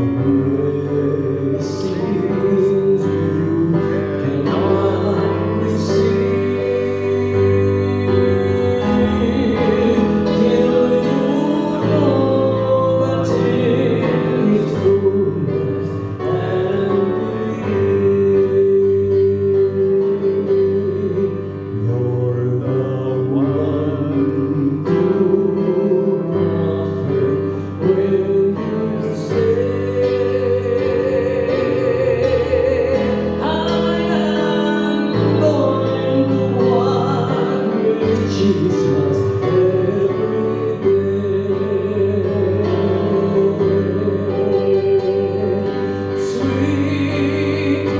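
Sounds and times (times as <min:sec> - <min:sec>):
worship song with accompaniment: 0:00.0 - 0:47.9.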